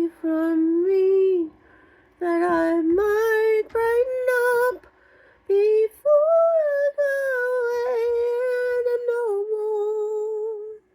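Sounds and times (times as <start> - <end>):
woman singing unaccompanied: 0.0 - 10.9.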